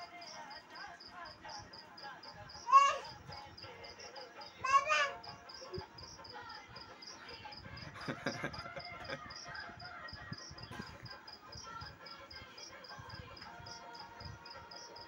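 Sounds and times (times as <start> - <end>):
faint music: 0.0 - 15.0.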